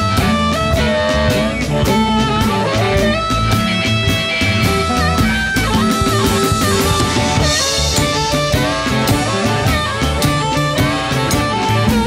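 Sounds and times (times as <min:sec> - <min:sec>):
blues band playing: 0:00.0 - 0:12.0
electric guitar lead: 0:00.0 - 0:12.0.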